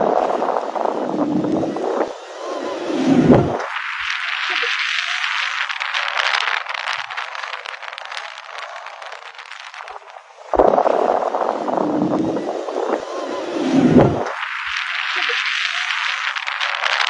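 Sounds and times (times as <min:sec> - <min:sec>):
heavy rain pelting down: 0:00.0 - 0:17.0.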